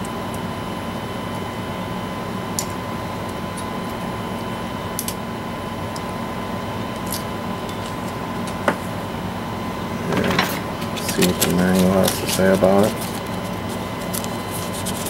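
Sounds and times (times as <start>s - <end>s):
faint constant whine: 0.0s - 15.0s
room tone hum and hiss: 0.0s - 15.0s.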